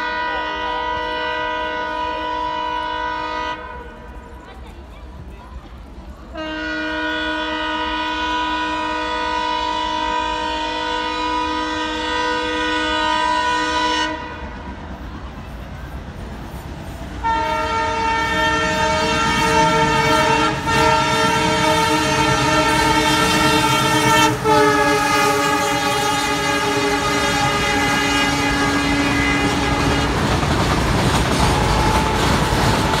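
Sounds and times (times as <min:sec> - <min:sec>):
train horn blast: 0:00.0 - 0:04.3, 0:06.3 - 0:14.7, 0:17.2 - 0:30.5, 0:31.3 - 0:33.0
freight wagons rumbling past: 0:00.0 - 0:07.9, 0:13.5 - 0:33.0.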